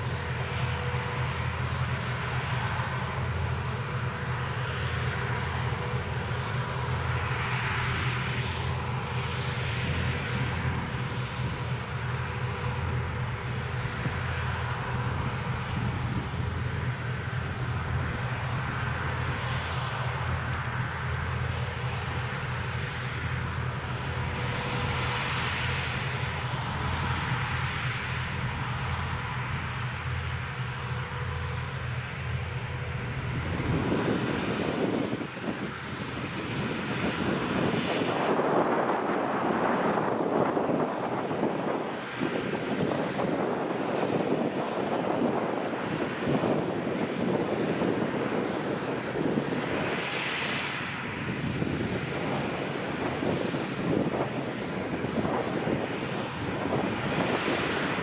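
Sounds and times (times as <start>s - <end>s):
combine harvester diesel drone: 0.0s - 58.0s
high-pitched machinery whine: 0.0s - 58.0s.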